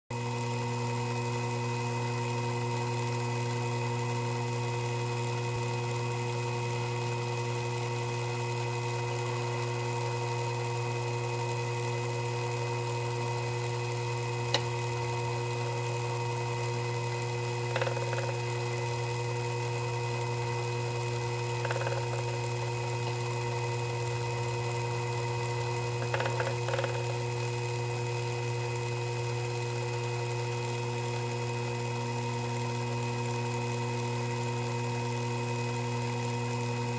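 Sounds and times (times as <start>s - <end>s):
lathe motor humming: 0.2s - 36.9s.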